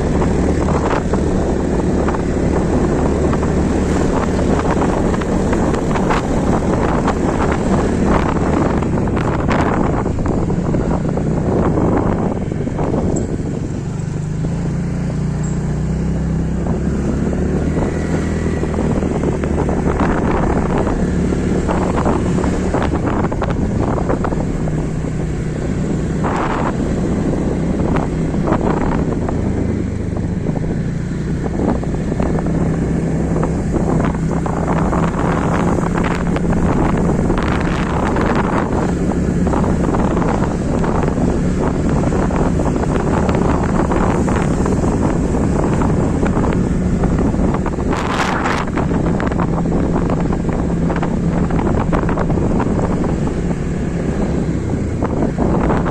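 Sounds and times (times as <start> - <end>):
vehicle engine running: 0.0 - 55.9
wind buffeting microphone: 0.0 - 55.9.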